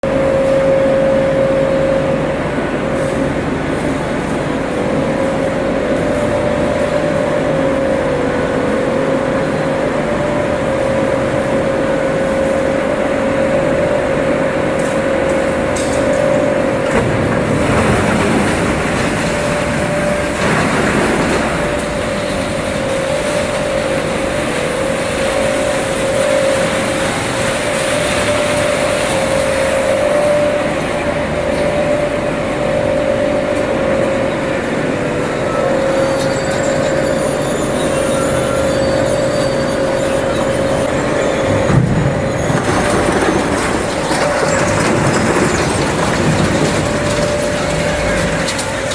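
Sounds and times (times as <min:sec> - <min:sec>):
rough mechanical noise: 0:03.9 - 0:48.9.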